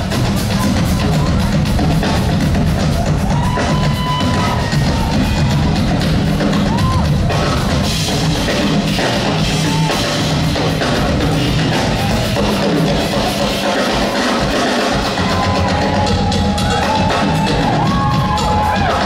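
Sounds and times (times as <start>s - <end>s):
loud drum duet: 0.0s - 19.0s.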